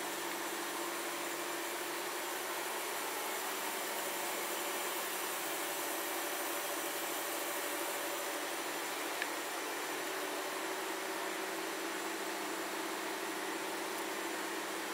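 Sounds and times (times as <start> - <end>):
lathe machine hum and hiss: 0.0 - 14.9.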